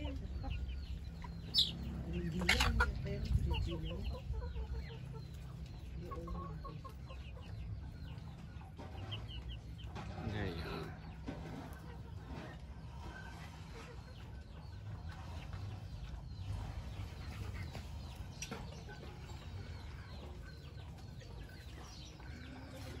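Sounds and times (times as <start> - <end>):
low steady rumble: 0.0 - 22.9
chickens clucking: 0.0 - 23.0.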